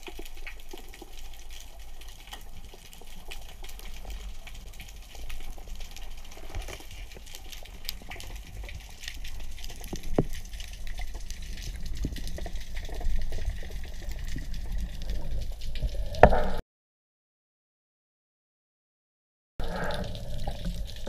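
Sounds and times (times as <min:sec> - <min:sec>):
underwater rumble: 0:00.0 - 0:16.6, 0:19.6 - 0:21.0.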